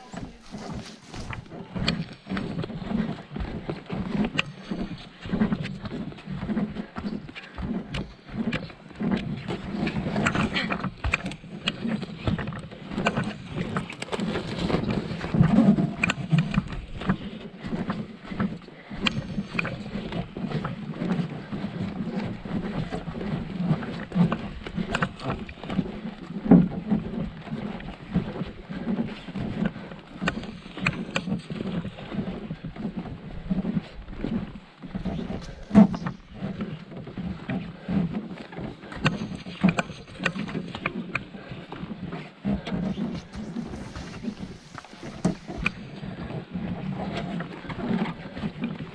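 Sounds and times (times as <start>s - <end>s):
paddle knocks and strokes: 0.0s - 48.9s
water splashing around boat: 0.0s - 48.9s.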